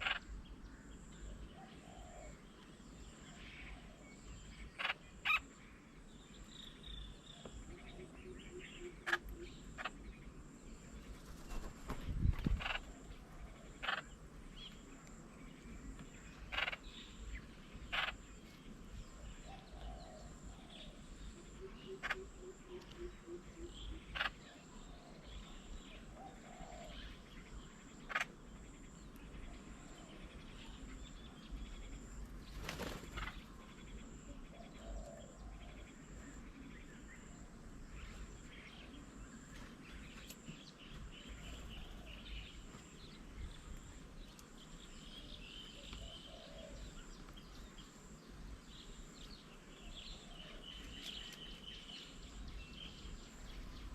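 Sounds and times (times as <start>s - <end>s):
faint bird chirps: 0.0s - 53.9s.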